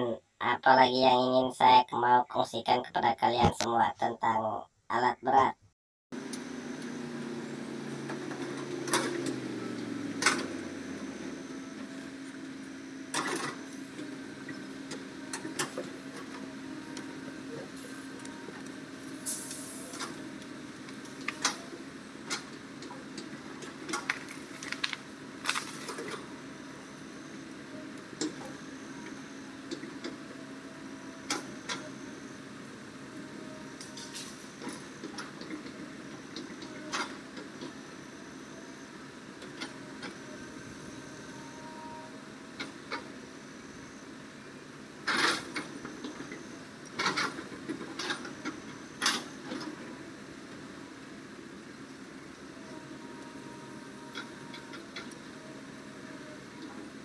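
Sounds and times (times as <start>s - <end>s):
excavator diesel engine running: 6.1s - 57.0s.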